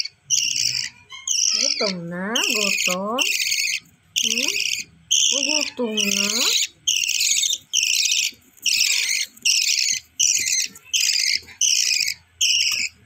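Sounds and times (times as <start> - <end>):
budgerigar chicks begging calls: 0.0 - 13.0.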